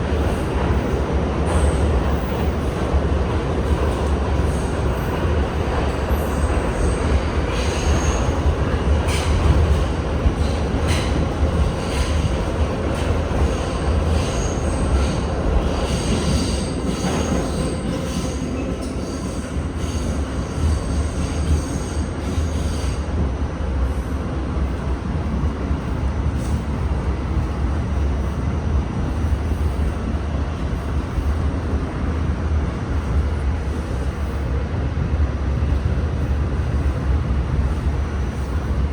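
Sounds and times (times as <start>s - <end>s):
subway car rumble: 0.0s - 38.9s.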